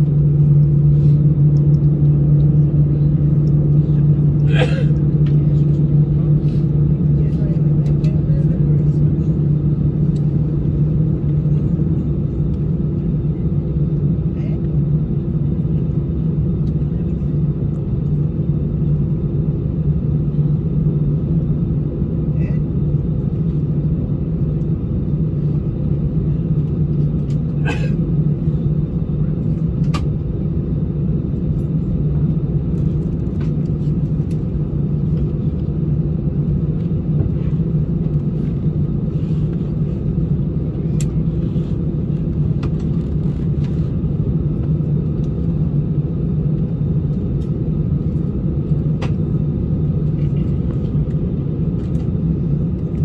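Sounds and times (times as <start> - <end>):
jet engines idling hum: 0.0 - 53.0.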